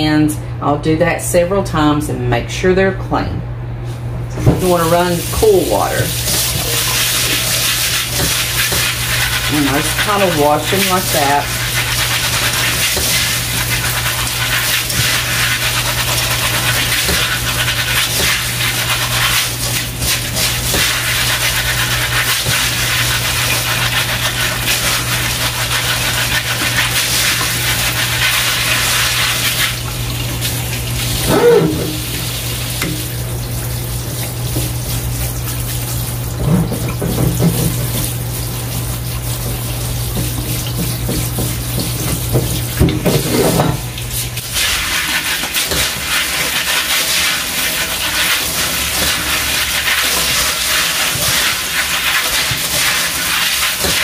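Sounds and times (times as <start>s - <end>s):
faucet water running: 4.3s - 54.0s.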